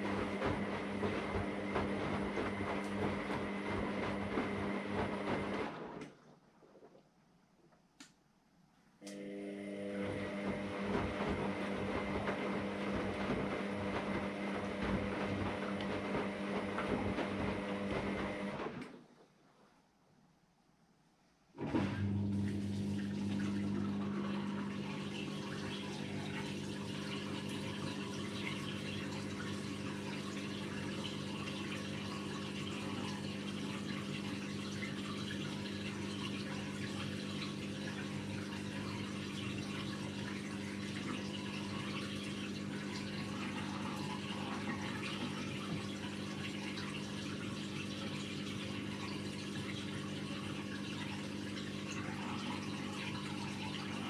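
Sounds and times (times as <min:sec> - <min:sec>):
washing machine electric hum: 0:00.0 - 0:06.8, 0:09.0 - 0:19.7, 0:21.5 - 0:54.0
water flowing in washing machine: 0:00.0 - 0:07.0, 0:09.1 - 0:19.3, 0:21.6 - 0:54.0.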